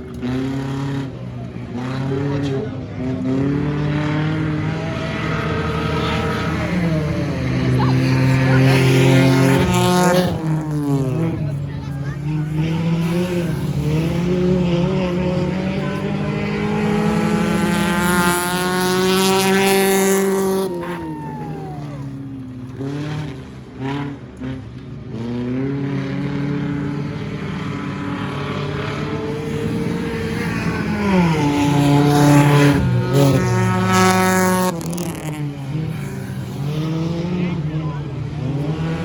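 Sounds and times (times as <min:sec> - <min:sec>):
race car engines accelerating: 0:00.0 - 0:39.0.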